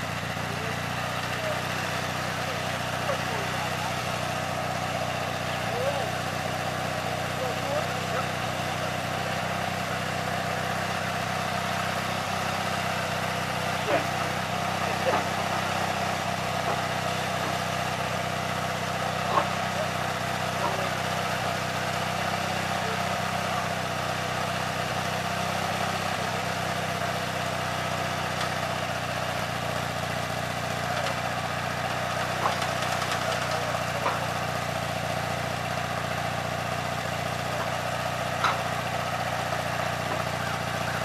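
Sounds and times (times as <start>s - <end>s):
engine idling: 0.0s - 41.0s.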